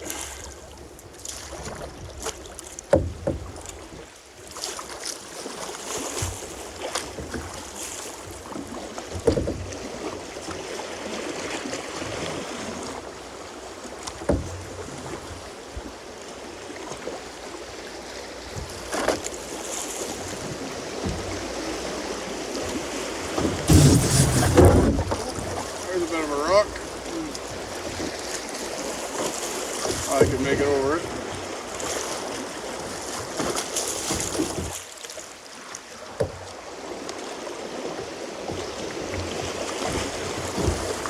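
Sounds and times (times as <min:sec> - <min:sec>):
rushing water: 0:00.0 - 0:41.0
boat and paddle knocks: 0:01.1 - 0:34.9, 0:35.7 - 0:41.0.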